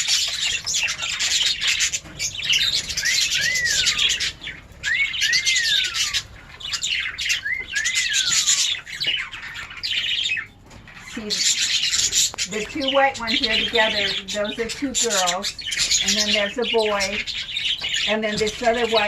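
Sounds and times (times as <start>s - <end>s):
lovebirds chattering and chirping: 0.0s - 19.0s.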